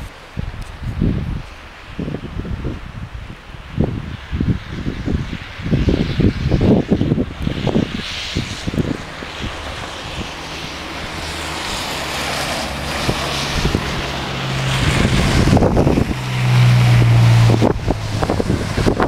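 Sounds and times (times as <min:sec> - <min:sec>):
vehicle engine hum: 0:00.0 - 0:19.0
wind buffeting microphone: 0:00.0 - 0:19.0.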